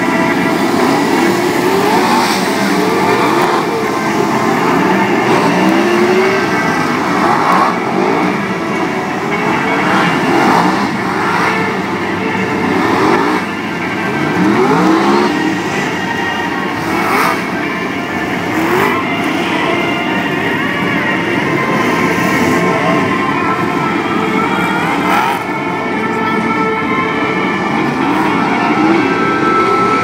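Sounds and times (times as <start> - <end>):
stock car engines revving: 0.0 - 30.0.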